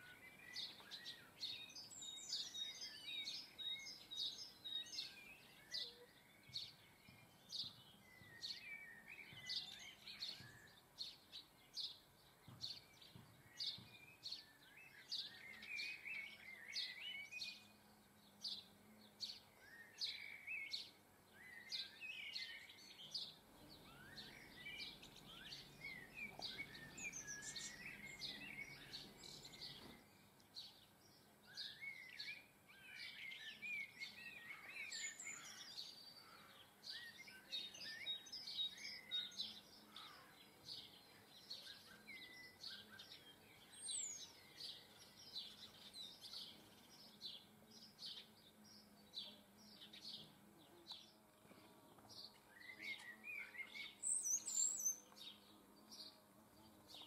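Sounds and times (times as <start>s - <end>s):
small birds singing and chirping: 0.0s - 57.0s.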